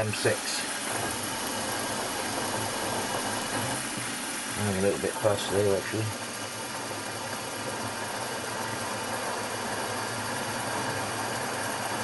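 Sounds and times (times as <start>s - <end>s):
milling machine spindle humming: 0.0s - 12.0s.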